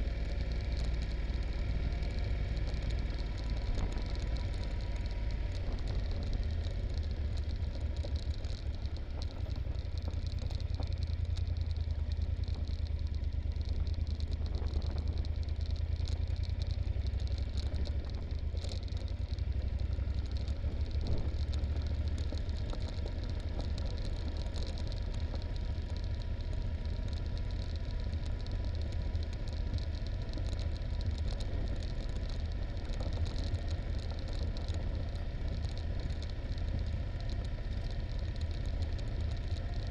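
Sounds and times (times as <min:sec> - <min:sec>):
motorcycle engine running: 0:00.0 - 0:39.9
bike rattling on gravel: 0:00.1 - 0:39.9.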